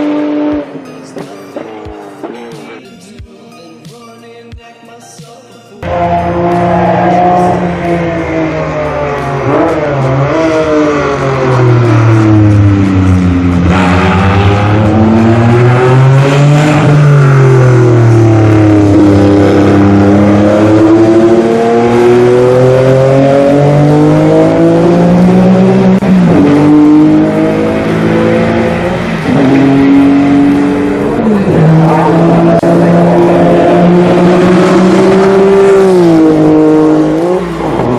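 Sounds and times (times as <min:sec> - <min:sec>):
race car engine running hard: 0:05.8 - 0:37.9.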